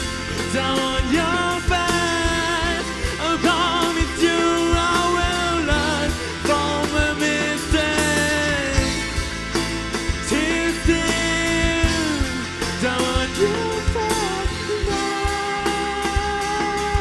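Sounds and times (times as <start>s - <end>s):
drum kit beating: 0.0s - 17.0s
electric guitar: 0.0s - 17.0s
man singing: 0.0s - 17.0s.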